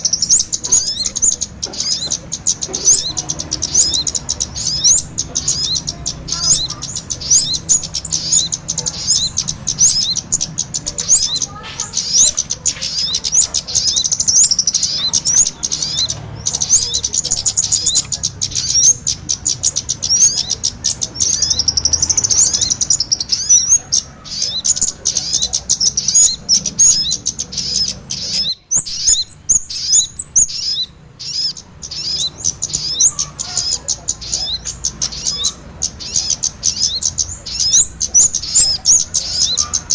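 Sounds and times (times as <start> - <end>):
high-pitched bird chirps: 0.0 - 39.9.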